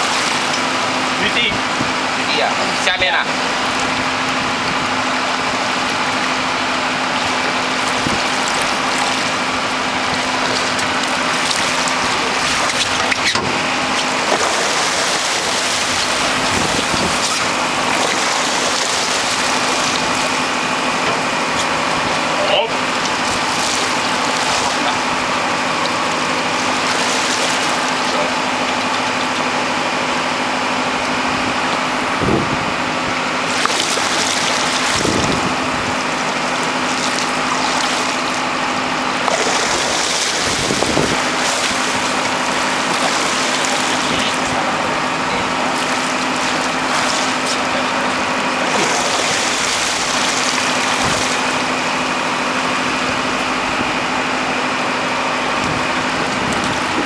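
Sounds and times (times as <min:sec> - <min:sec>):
boat engine humming: 0:00.0 - 0:57.0
sea noise: 0:00.0 - 0:57.0
wind: 0:00.0 - 0:57.0.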